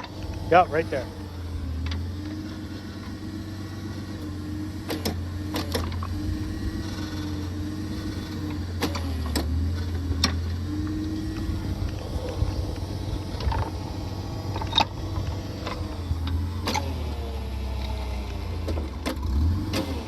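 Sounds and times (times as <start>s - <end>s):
auger engine running: 0.0s - 20.0s.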